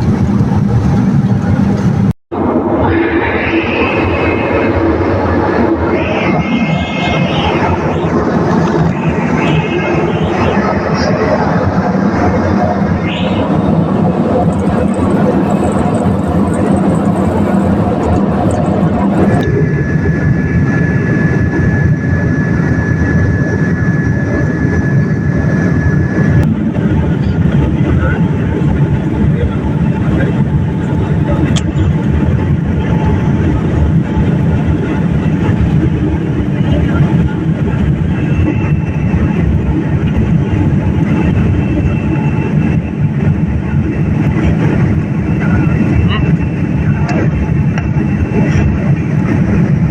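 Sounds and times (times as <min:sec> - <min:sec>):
jet engine and airflow rush: 0:00.0 - 0:49.9.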